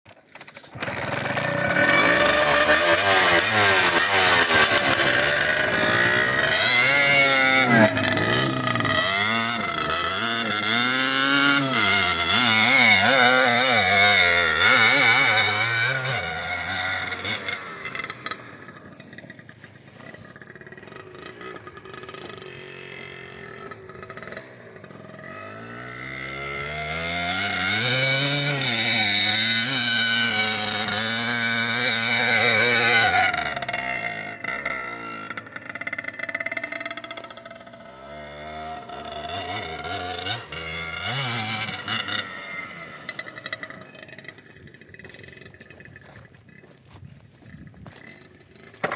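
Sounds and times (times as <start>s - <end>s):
motorcycle engine revving through gears: 0.1s - 48.9s.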